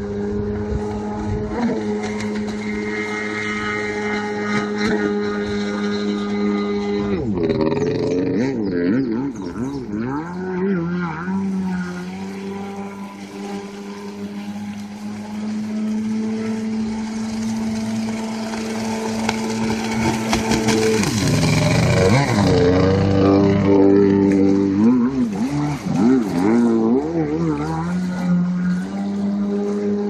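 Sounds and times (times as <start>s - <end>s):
jet ski engine: 0.0s - 30.0s.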